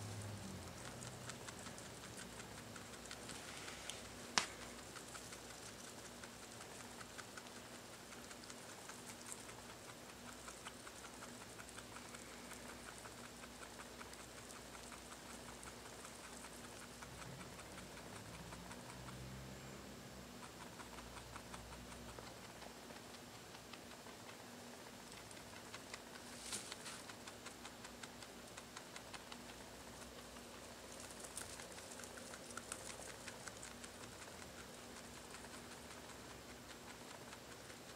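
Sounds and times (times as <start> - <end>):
rabbit chewing hay: 0.0 - 37.9.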